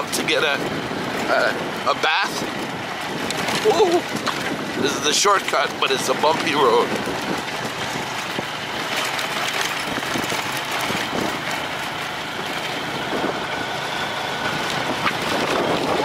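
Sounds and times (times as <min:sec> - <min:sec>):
wind rush: 0:00.0 - 0:08.9, 0:09.8 - 0:16.0
motorcycle engine: 0:00.0 - 0:16.0.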